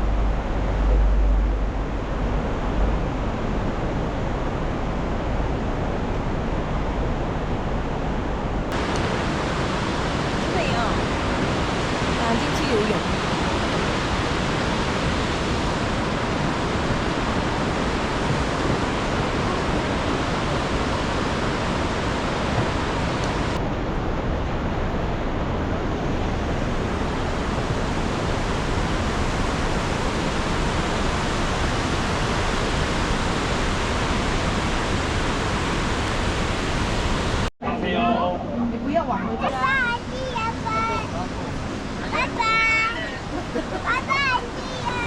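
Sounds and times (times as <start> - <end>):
rushing river water: 0.0 - 45.0.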